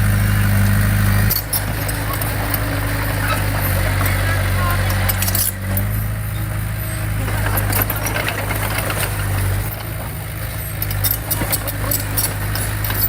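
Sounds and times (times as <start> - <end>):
diesel engine humming: 0.0 - 13.0
rattling and clanking: 0.2 - 13.0.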